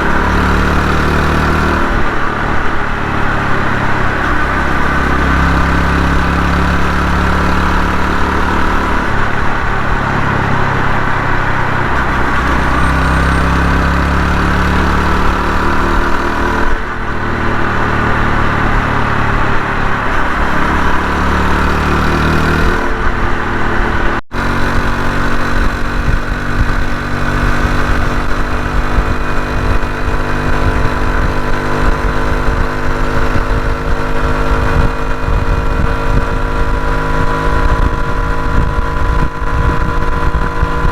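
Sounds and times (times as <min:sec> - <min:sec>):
motorcycle engine running: 0:00.0 - 0:40.9
wind rushing over microphone: 0:00.0 - 0:40.9.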